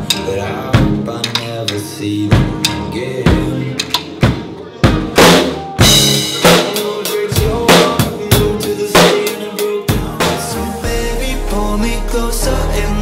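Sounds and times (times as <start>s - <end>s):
band music: 0.0s - 13.0s
drum kit playing: 0.0s - 13.0s.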